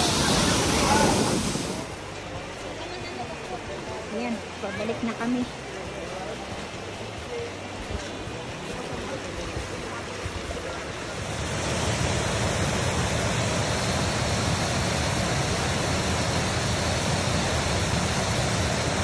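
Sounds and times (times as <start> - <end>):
waterfall over a weir: 0.0 - 19.0.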